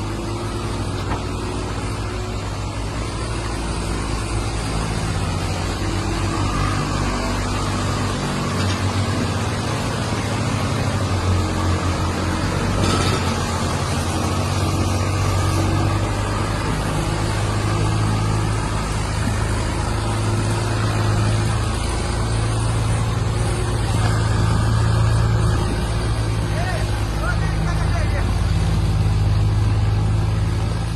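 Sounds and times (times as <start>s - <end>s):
heavy vehicle engine running: 0.0s - 30.9s.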